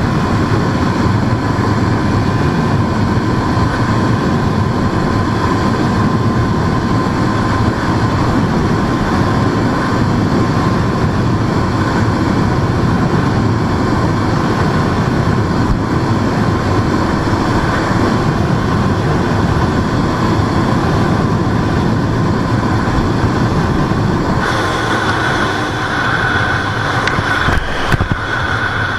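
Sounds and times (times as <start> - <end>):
motorcycle engine at high speed: 0.0 - 28.9
rushing wind noise: 0.0 - 28.9.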